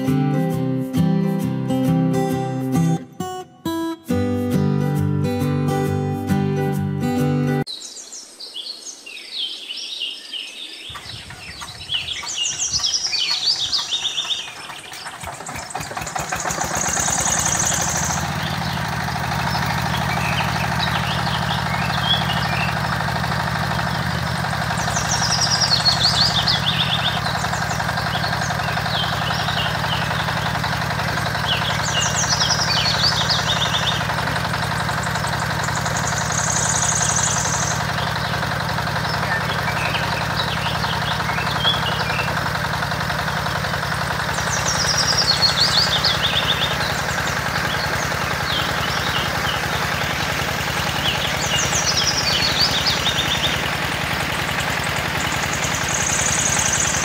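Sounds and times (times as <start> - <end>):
birds chirping: 6.6 - 57.0
small engine chugging: 10.8 - 57.0.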